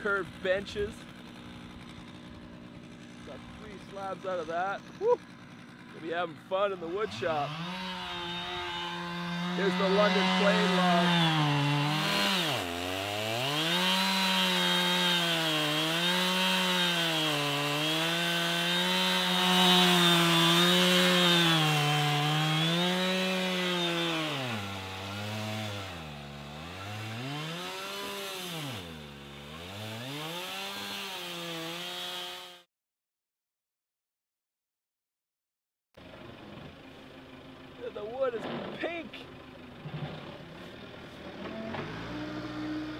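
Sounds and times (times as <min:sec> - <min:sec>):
chainsaw cutting log: 0:00.0 - 0:32.7, 0:39.8 - 0:42.9.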